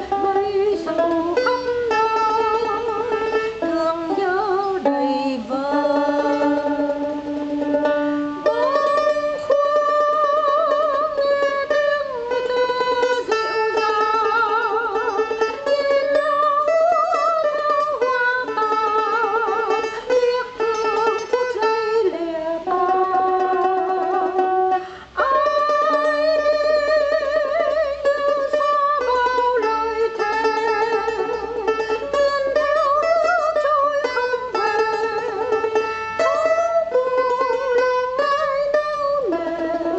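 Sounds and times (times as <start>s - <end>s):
plucked strings: 0.0s - 39.9s.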